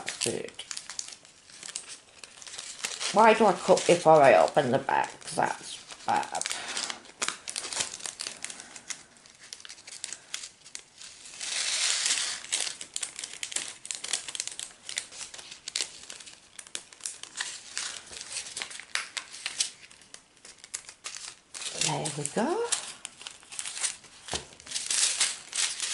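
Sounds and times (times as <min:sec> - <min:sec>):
plastic packets crinkling: 0:00.0 - 0:25.9.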